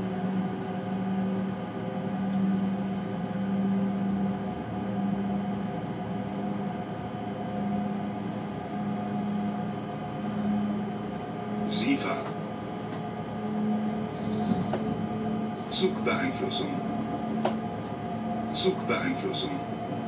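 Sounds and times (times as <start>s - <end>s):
electric train droning hum: 0.0s - 20.0s.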